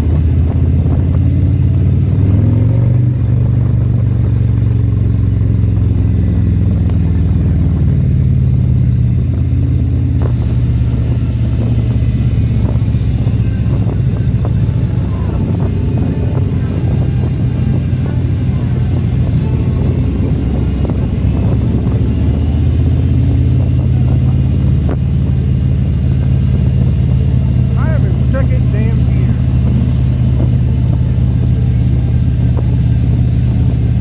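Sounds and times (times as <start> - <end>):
motorcycle engine droning: 0.0 - 34.0.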